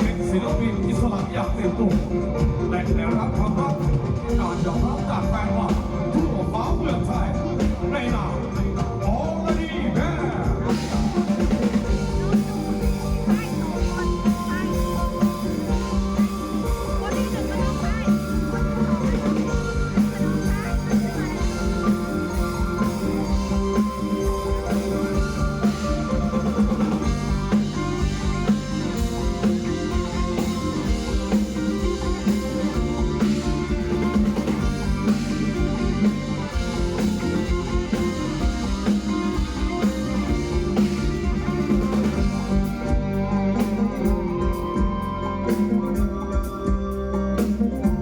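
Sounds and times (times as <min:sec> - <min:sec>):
drum kit: 0:00.0 - 0:48.0
electric guitar: 0:00.0 - 0:48.0.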